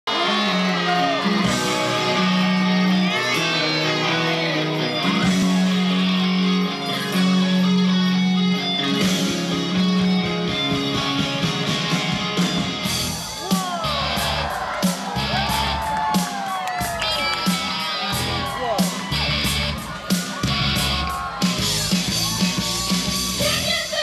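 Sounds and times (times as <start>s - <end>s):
electric guitar playing rock: 0.1s - 24.0s.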